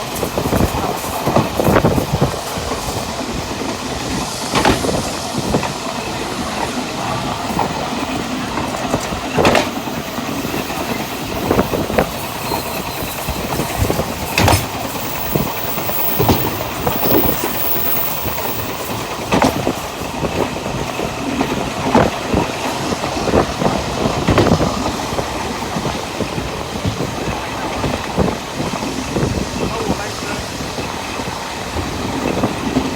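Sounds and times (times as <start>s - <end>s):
train wheels clacking: 0.0s - 32.9s
train wheels rumbling on rails: 0.0s - 32.9s.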